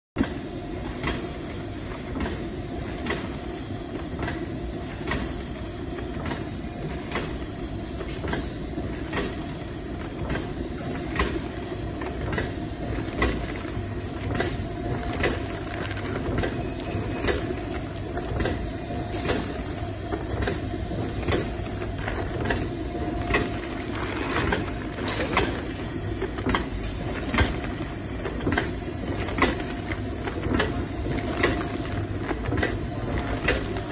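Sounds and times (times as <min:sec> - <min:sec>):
packaging machine hum and rumble: 0:00.2 - 0:33.9
regular mechanical clicking: 0:00.2 - 0:33.9.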